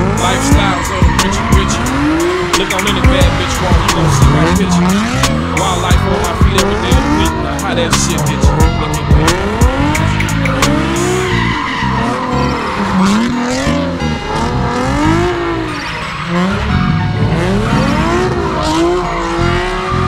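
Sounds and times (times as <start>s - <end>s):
car engine revving: 0.0s - 20.0s
tires squealing and skidding: 0.0s - 20.0s.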